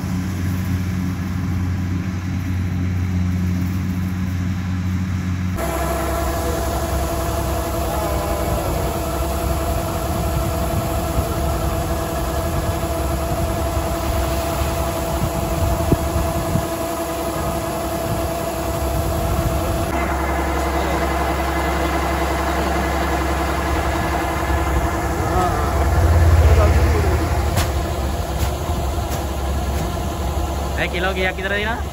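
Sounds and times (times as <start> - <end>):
combine harvester running: 0.0 - 31.9.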